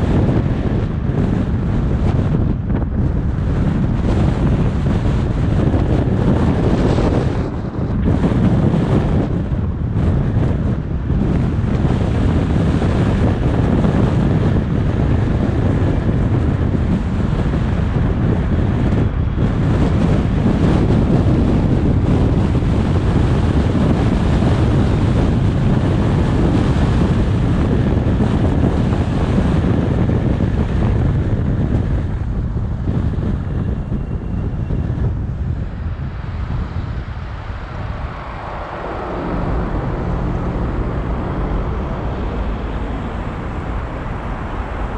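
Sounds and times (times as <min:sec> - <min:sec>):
car tyre and engine noise: 0:00.0 - 0:44.9
wind on microphone: 0:00.0 - 0:44.9.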